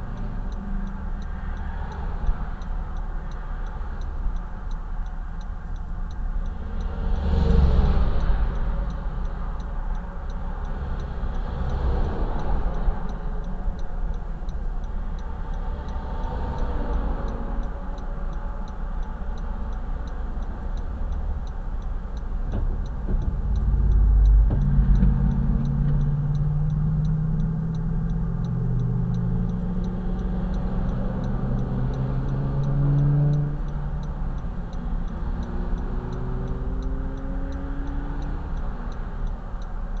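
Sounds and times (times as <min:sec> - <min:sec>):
highway traffic rumble: 0:00.0 - 0:40.0.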